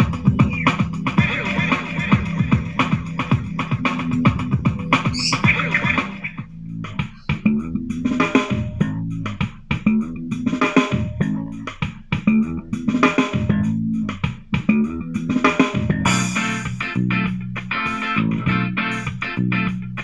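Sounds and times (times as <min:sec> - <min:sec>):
music through portable speaker: 0:00.0 - 0:20.0.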